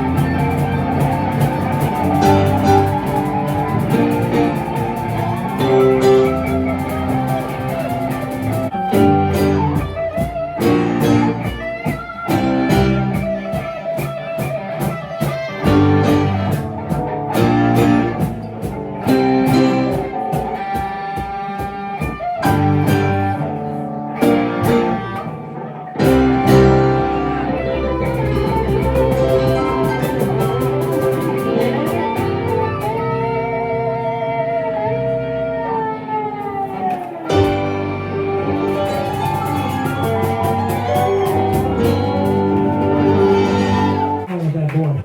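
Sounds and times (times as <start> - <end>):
blues-rock band with electric guitar: 0.0 - 44.3.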